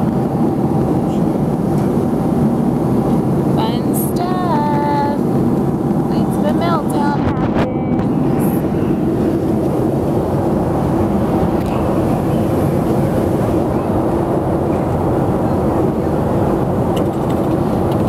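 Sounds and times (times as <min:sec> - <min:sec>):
airliner cabin drone: 0:00.0 - 0:18.0.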